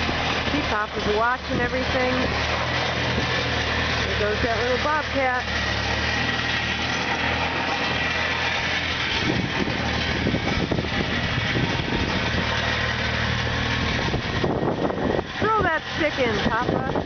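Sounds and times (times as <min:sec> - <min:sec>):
irregular clatter: 0:00.0 - 0:17.0
loader engine running: 0:00.0 - 0:17.0.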